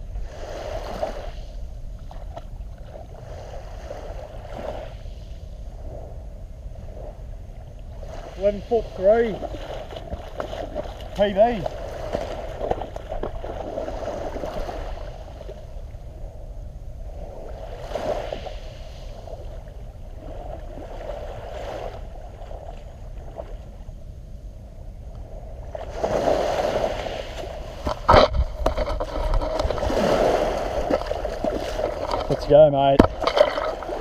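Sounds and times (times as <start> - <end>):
surf washing on shore: 0.0 - 34.0.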